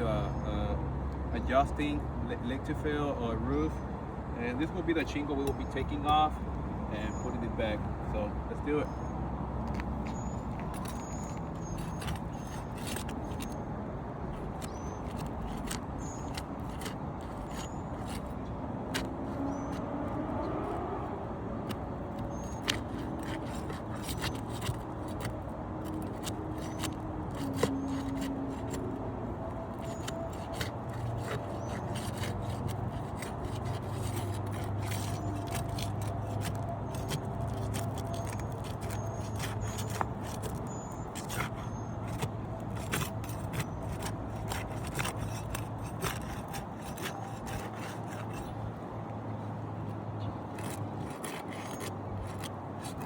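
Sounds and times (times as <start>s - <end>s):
scraping and clicks prying shingle: 1.1s - 3.7s, 4.4s - 9.0s, 9.6s - 20.8s, 21.4s - 53.0s.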